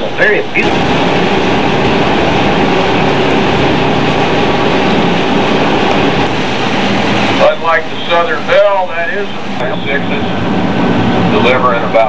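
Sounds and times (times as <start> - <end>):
loud rushing water noise: 0.0 - 12.0
low engine hum: 0.0 - 12.0.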